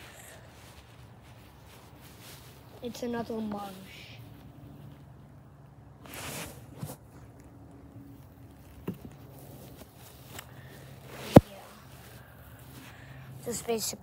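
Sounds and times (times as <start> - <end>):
bare feet rustling on dry grass: 0.0 - 13.8.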